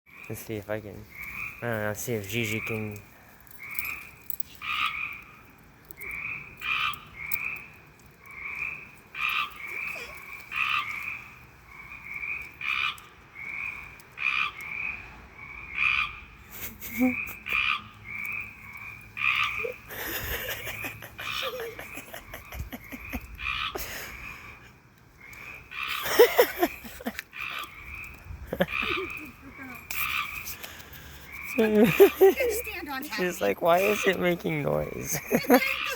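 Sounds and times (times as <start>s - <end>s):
frog croaking: 0.1s - 35.9s.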